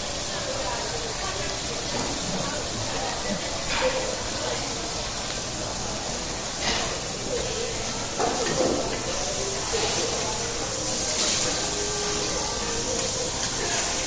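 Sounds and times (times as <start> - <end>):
food sizzling on griddle: 0.0 - 14.0.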